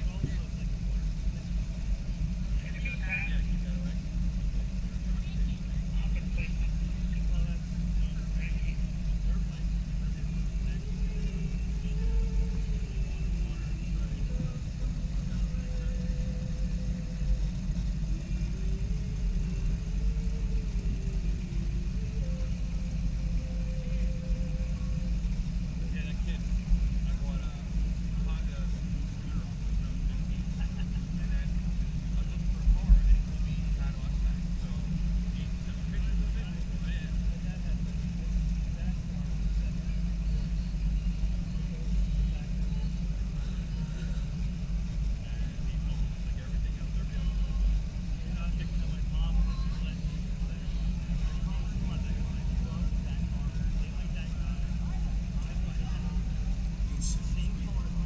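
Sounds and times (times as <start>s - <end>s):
car engine running: 0.0s - 58.0s
faint voices: 0.0s - 58.0s.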